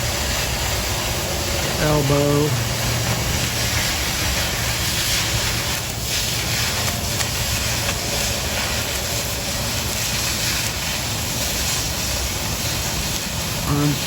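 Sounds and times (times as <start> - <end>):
cutting torch hissing: 0.0 - 14.0.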